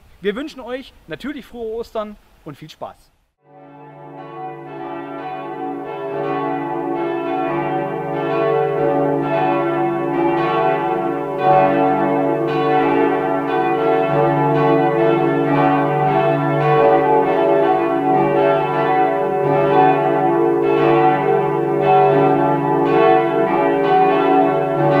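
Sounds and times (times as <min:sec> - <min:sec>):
church bells pealing: 0:03.5 - 0:25.0.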